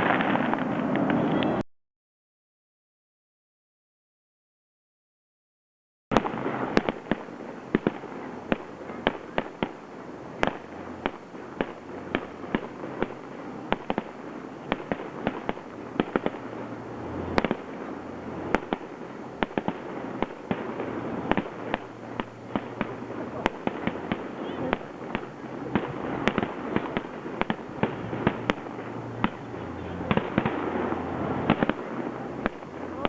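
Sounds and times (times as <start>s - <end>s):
continuous rushing noise: 0.0s - 1.6s, 6.1s - 33.0s
fireworks shells bursting: 6.1s - 33.0s.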